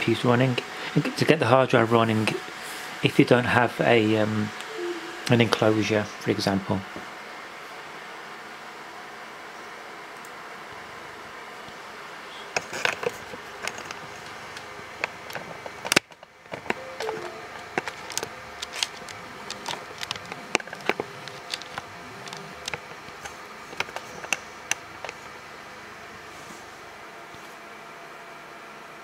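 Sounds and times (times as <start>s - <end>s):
computer fan whir: 0.0s - 29.0s.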